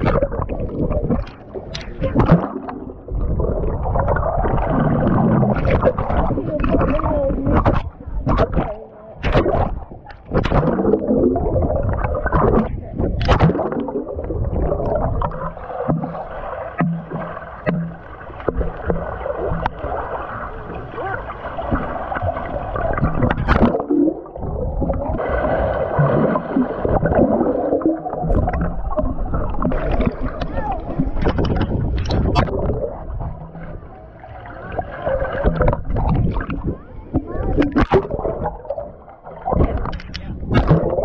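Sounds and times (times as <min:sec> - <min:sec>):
sharp water splashes: 0:00.0 - 0:03.0, 0:03.9 - 0:33.2, 0:34.6 - 0:41.0
muffled water gurgling and sloshing: 0:00.0 - 0:41.0.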